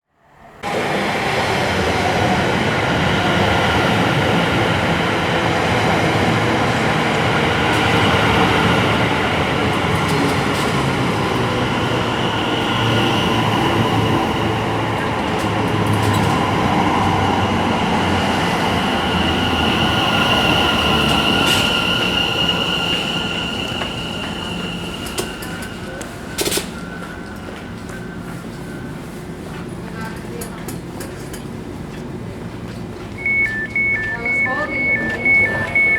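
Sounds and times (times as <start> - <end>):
train rumbling on rails: 0.2 - 35.9.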